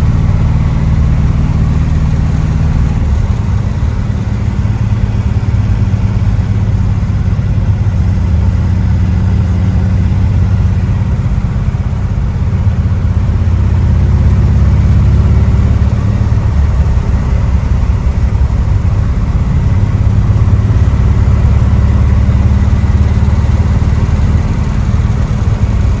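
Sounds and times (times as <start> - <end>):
old car engine running: 0.0 - 26.0.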